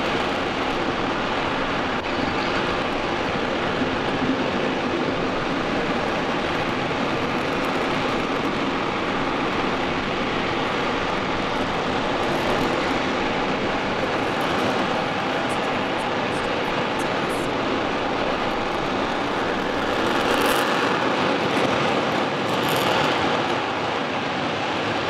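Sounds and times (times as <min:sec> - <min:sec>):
rocket engine exhaust roar: 0:00.0 - 0:25.0.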